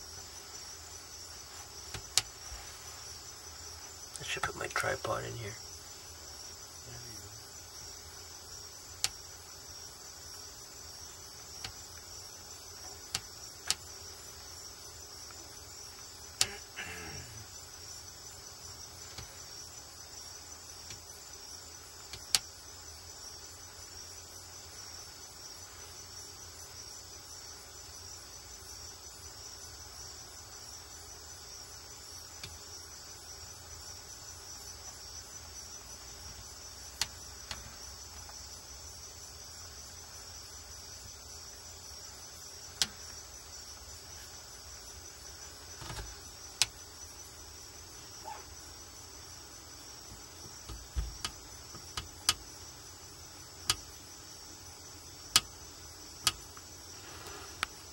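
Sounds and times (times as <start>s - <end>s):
high-pitched insect drone: 0.0s - 57.9s.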